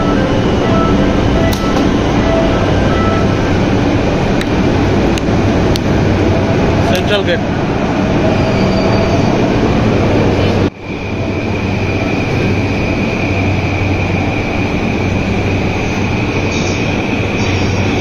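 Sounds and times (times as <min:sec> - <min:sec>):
high whine: 0:00.0 - 0:18.0
subway train rumbling: 0:00.0 - 0:18.0.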